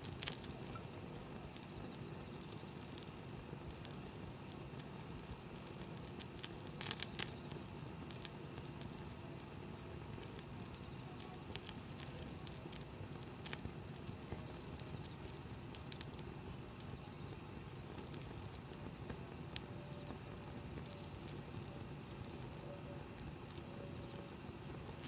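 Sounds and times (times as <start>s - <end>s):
campfire hissing and popping: 0.0s - 25.0s.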